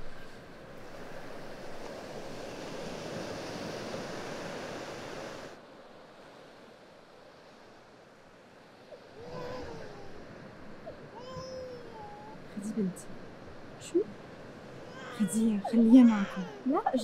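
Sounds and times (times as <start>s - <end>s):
sea surf washing on beach: 0.0s - 17.0s.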